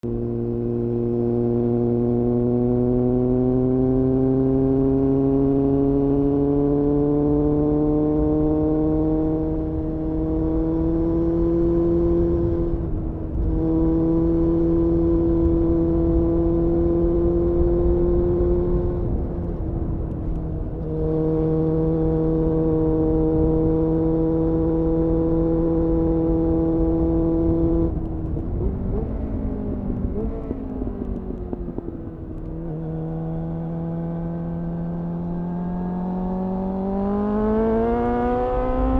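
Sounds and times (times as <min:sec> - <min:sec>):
motorcycle engine accelerating: 0:00.0 - 0:38.9
road rumble: 0:00.0 - 0:38.9
wind: 0:00.0 - 0:38.9.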